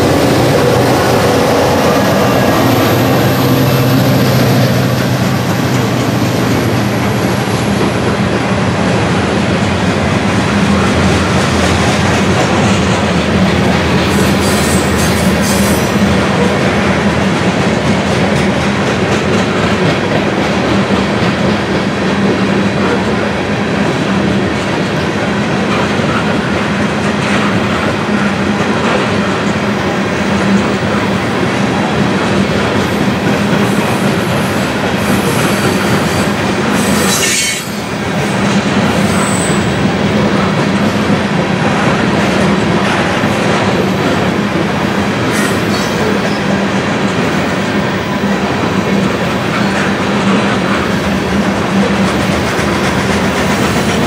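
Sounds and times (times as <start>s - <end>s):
steel wheels rolling on rail: 0.0s - 54.0s.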